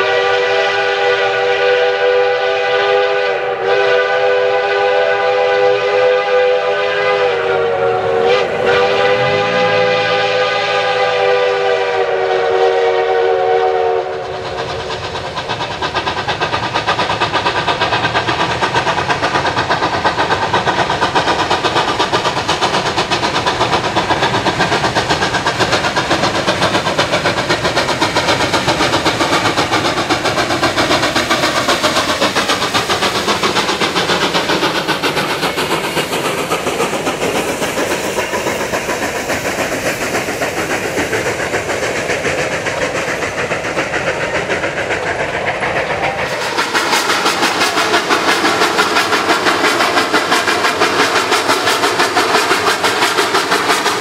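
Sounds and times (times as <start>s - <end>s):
steam locomotive chuffing: 0.0s - 54.0s
train coaches rolling by: 0.0s - 54.0s.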